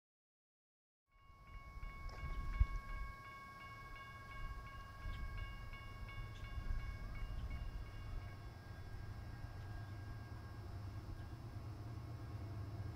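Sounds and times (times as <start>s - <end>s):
crossing bells ringing: 1.1s - 12.9s
diesel locomotives rumbling: 1.2s - 12.9s.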